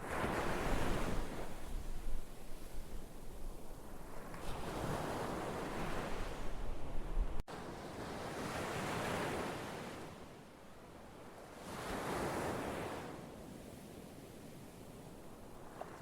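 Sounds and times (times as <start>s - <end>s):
ocean waves washing ashore: 0.0s - 16.0s.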